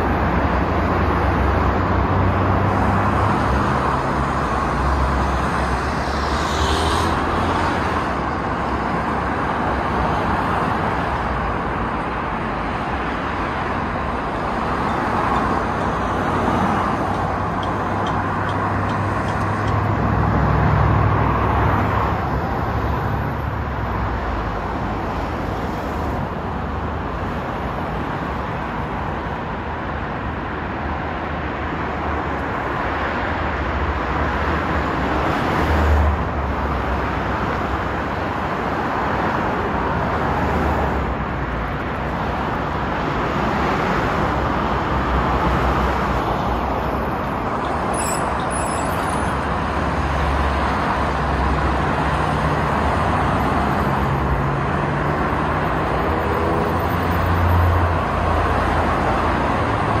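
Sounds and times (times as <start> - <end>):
road traffic noise: 0.0 - 60.0.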